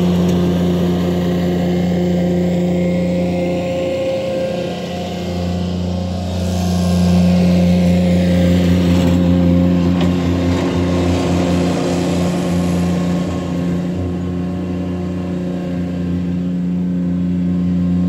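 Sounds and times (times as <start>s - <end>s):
mini skid steer engine running: 0.0s - 18.0s.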